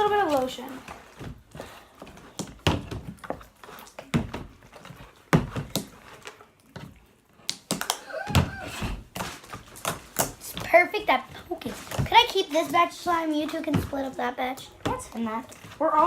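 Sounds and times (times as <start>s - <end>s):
slime smacks and thumps: 2.1s - 15.8s.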